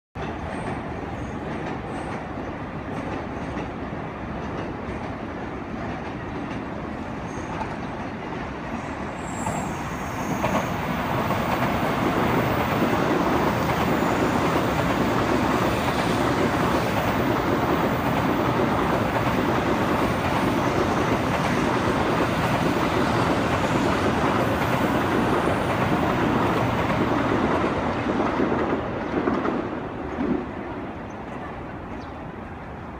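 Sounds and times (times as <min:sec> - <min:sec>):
high-speed train passing: 0:00.2 - 0:32.9.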